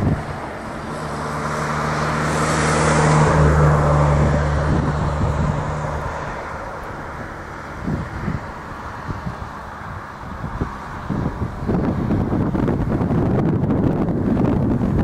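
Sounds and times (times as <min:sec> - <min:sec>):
low engine hum: 0:00.0 - 0:15.0
vehicle passing on road: 0:00.0 - 0:15.0.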